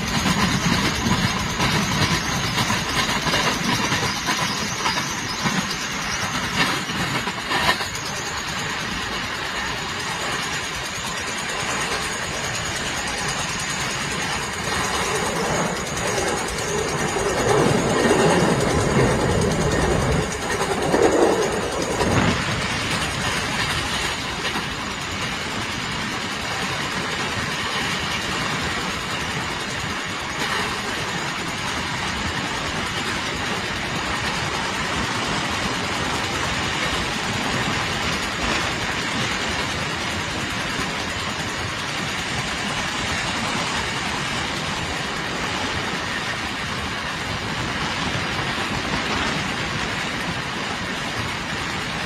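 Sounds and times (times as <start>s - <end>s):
train rumbling on rails: 0.0s - 52.0s.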